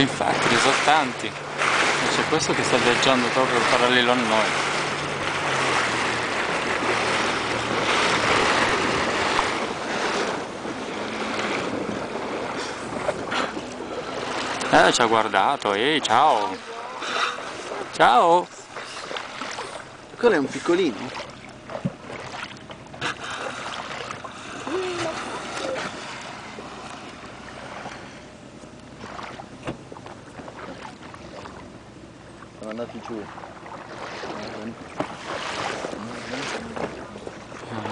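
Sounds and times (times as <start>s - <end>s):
water rushing past boat: 0.0s - 37.9s
wind: 0.0s - 37.9s.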